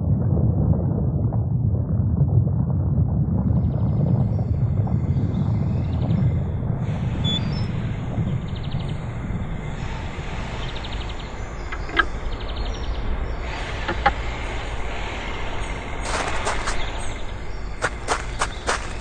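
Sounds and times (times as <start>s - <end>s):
low workshop rumble: 3.7s - 19.0s.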